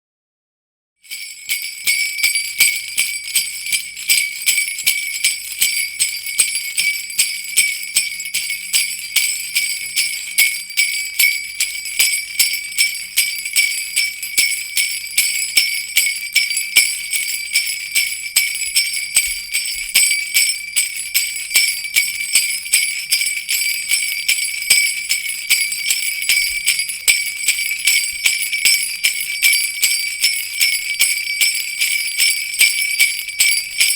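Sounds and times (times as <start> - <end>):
sleigh bells shaker jingling: 1.0 - 33.9.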